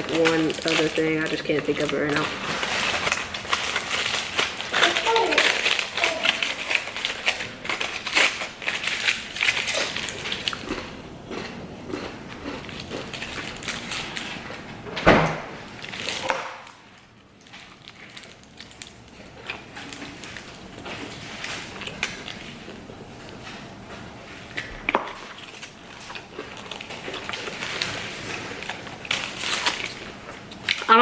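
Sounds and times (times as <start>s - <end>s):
wrapper crinkling: 0.0s - 10.7s, 12.6s - 14.5s, 15.7s - 23.6s, 25.2s - 31.0s
biting and chewing: 0.0s - 14.7s, 15.7s - 31.0s.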